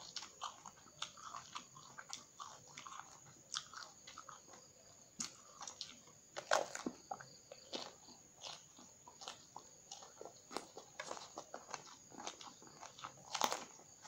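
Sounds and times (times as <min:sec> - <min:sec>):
crunchy biting and chewing: 0:00.0 - 0:14.0.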